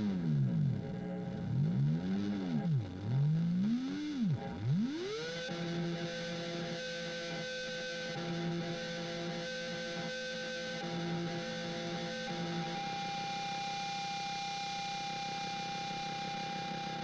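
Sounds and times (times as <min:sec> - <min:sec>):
swooping pulsing effects pedal tone: 0:00.0 - 0:17.0.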